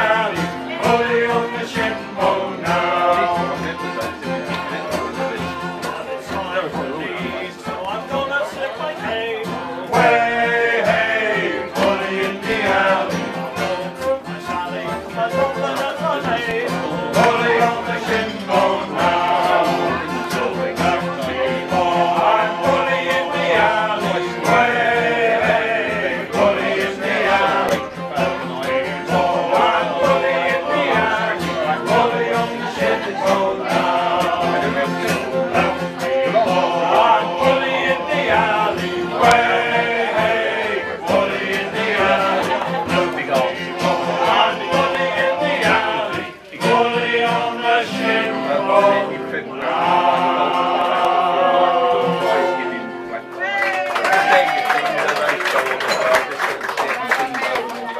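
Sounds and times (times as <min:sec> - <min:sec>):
men singing together: 0:00.0 - 0:53.0
acoustic guitar: 0:00.0 - 0:57.9.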